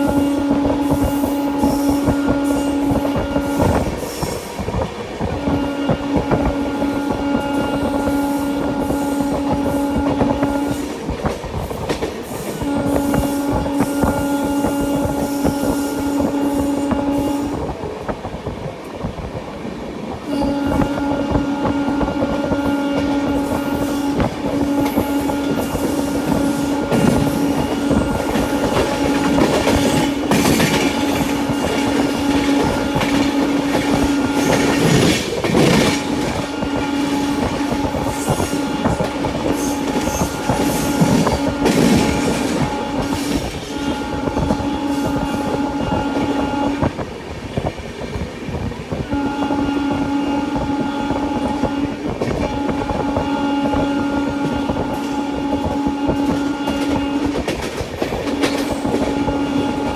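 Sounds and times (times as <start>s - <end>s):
train horn blasts: 0.0s - 17.8s, 20.2s - 47.1s, 48.5s - 59.9s
train wheels clattering on rails: 0.0s - 59.9s.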